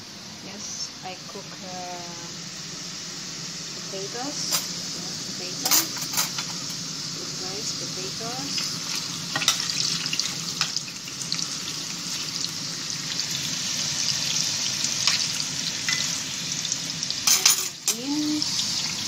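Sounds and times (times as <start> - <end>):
potatoes sizzling in a pan: 0.0 - 19.0.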